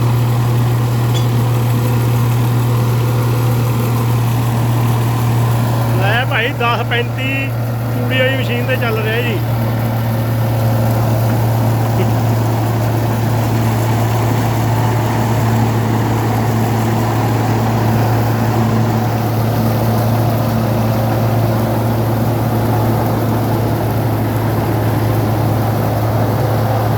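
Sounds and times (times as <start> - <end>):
tractor engine and machine drone: 0.0 - 26.9.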